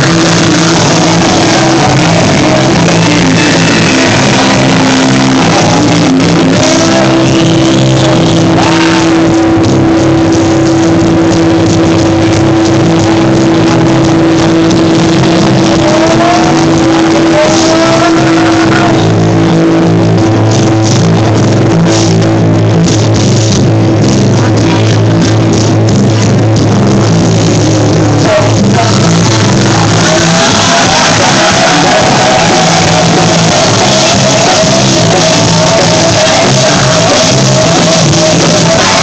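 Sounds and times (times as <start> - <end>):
distorted live rock band: 0.0 - 39.0
squealing sliding guitar pitches: 0.0 - 39.0.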